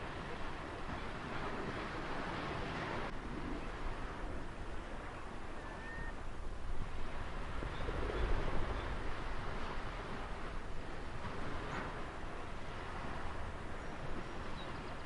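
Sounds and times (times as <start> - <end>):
ocean waves on shore: 0.0 - 15.0.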